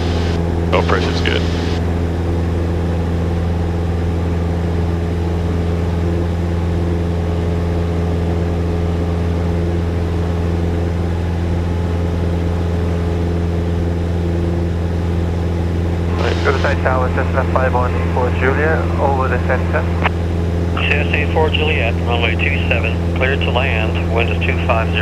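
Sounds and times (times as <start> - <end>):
propeller plane engine drone: 0.0 - 25.0.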